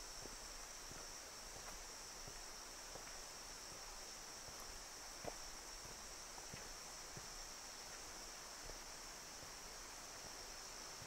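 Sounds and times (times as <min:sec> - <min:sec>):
high-pitched insect chorus: 0:00.0 - 0:11.0
soft footsteps on trail: 0:00.0 - 0:11.0.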